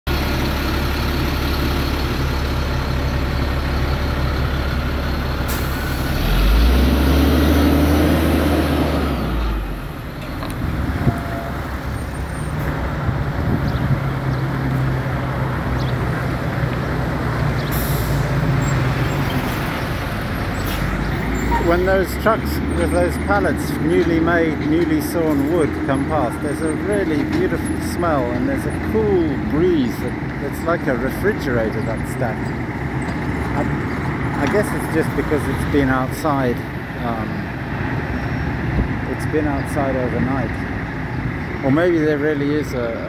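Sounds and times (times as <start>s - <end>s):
heavy trucks driving past: 0.1s - 43.0s.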